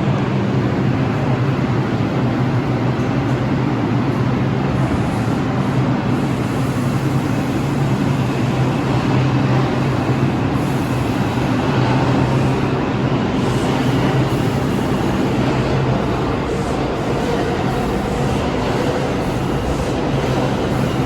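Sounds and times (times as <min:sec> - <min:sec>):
subway train rumbling: 0:00.0 - 0:21.0.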